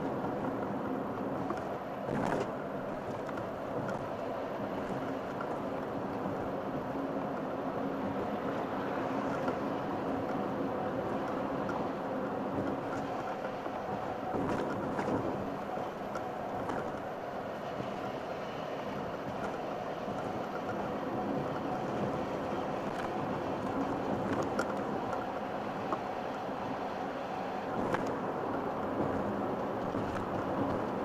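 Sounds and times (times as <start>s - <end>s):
car cabin road and engine noise: 0.0s - 31.0s.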